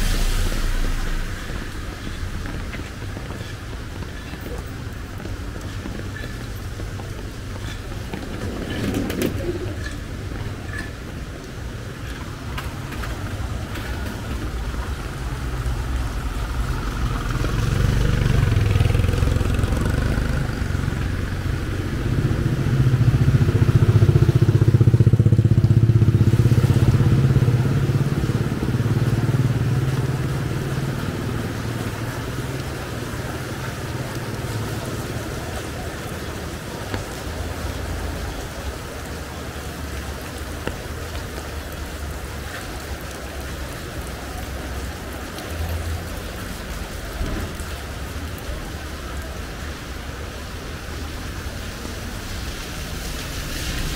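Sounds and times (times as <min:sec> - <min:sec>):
traffic passing close by: 0:00.0 - 0:53.9.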